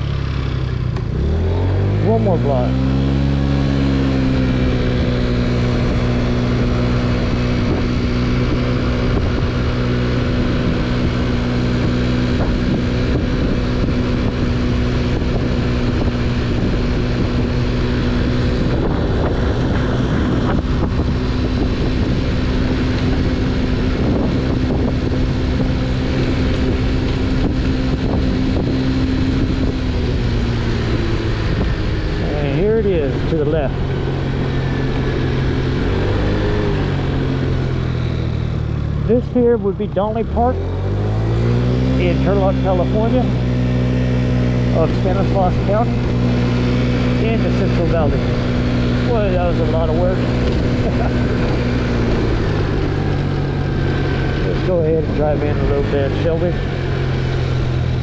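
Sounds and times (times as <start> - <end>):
scooter engine running: 0.0 - 58.0
wind buffeting microphone: 3.0 - 38.8, 39.4 - 58.0.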